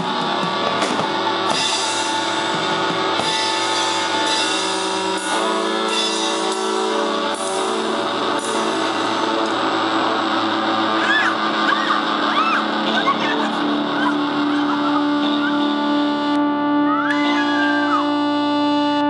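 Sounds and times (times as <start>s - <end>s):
cymbal crashes: 0.0s - 16.4s
drums: 0.0s - 18.2s
bass guitar: 0.0s - 19.0s
distorted electric guitars: 0.0s - 19.0s.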